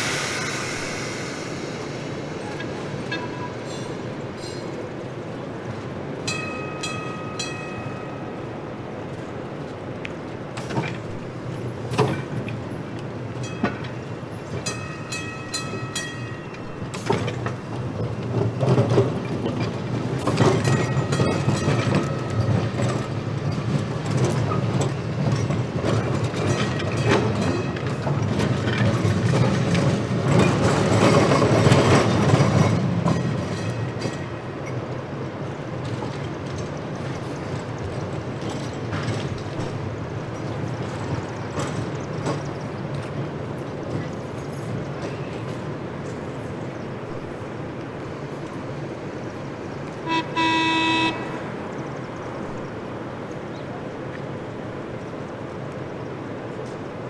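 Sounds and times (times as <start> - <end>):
streetcar rumble: 0.0 - 57.0
streetcar wheels clicking on rails: 0.0 - 57.0.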